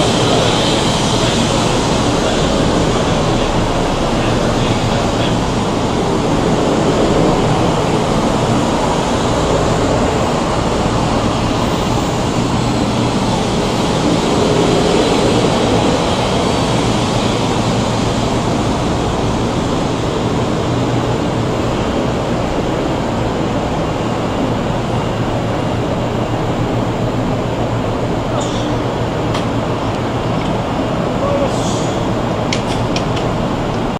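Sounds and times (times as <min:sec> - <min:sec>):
train rumbling on rails: 0:00.0 - 0:33.9.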